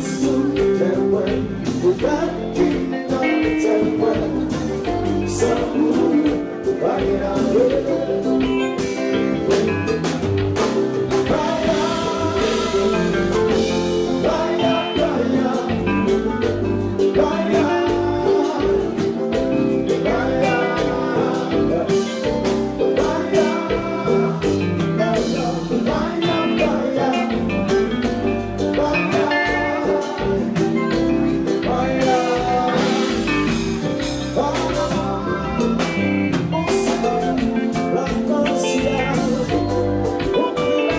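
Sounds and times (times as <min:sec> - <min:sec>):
drum kit: 0:00.0 - 0:40.9
electric guitars: 0:00.0 - 0:40.9
man singing: 0:00.0 - 0:40.9.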